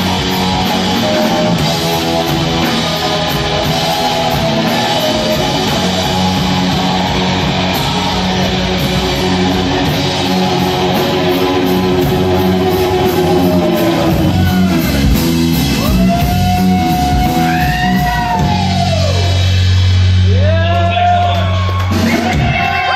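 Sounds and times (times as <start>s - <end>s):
bass guitar: 0.0s - 22.9s
drums: 0.0s - 22.9s
electric guitar: 0.0s - 22.9s.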